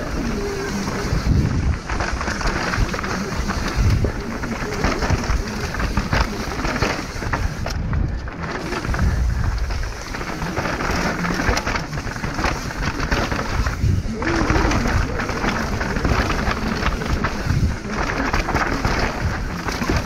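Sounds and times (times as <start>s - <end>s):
bike clattering: 0.0s - 20.0s
heavy low rumble: 0.0s - 20.0s
tyres crunching on loose rock: 0.0s - 20.0s.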